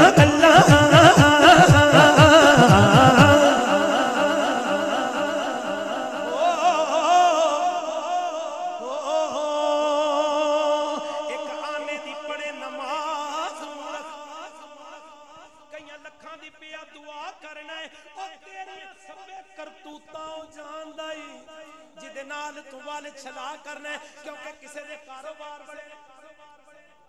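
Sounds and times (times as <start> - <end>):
man singing into microphone: 0.0 - 26.9.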